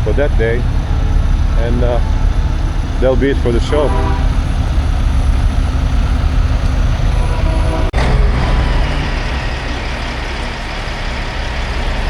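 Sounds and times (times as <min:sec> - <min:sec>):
diesel truck engines rumbling: 0:00.0 - 0:12.0.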